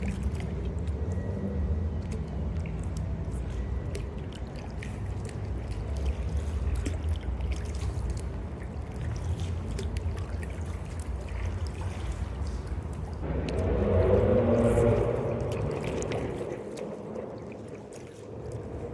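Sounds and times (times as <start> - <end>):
steady low rumble: 0.0 - 18.9
water dripping off paddle: 0.0 - 18.9.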